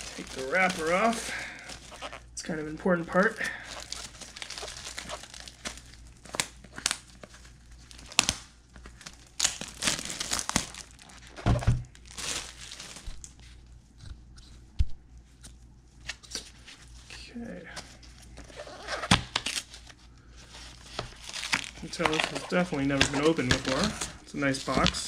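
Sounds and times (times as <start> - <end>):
cellophane crinkling and tearing: 0.0 - 13.6, 18.0 - 25.0.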